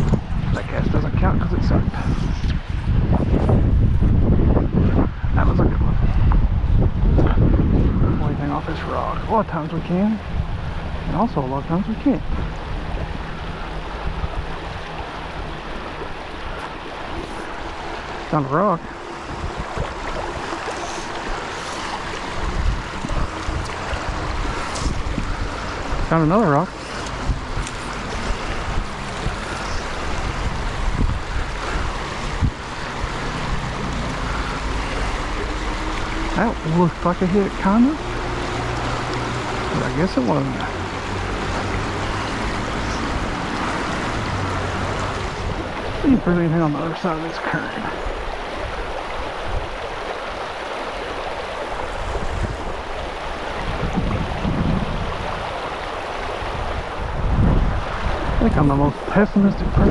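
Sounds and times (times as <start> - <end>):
low rumbles: 0.0 - 50.5
creek water rushing over gravel: 0.0 - 59.9
wind buffeting microphone: 0.0 - 59.9.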